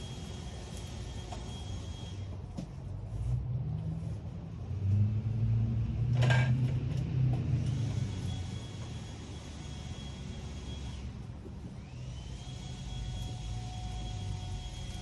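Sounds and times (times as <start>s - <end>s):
large engine droning: 0.0s - 15.0s.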